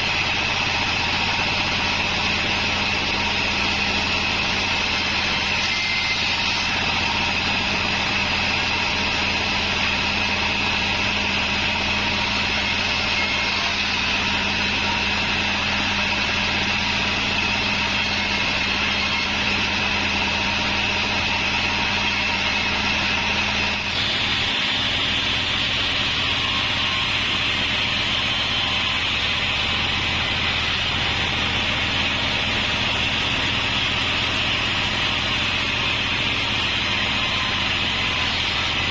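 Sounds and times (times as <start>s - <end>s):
bandsaw whining sawing log: 0.0s - 38.9s.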